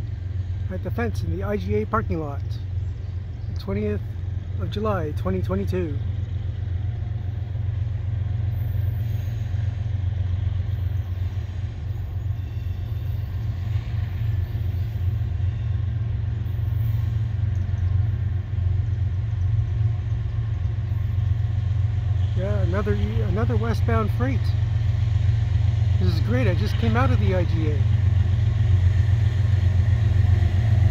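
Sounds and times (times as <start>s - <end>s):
diesel locomotive rumble: 0.0s - 30.9s.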